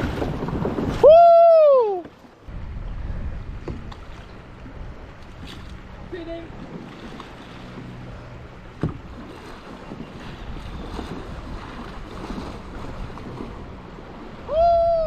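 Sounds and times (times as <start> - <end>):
water splashing around kayak: 0.0 - 15.0
wind on microphone: 0.0 - 15.0.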